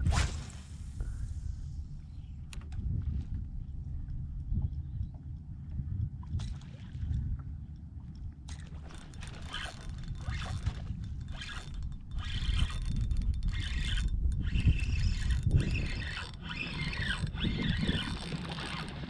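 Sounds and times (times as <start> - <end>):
wind rumbling on microphone: 0.0 - 19.0
water lapping against boat hull: 2.8 - 19.0.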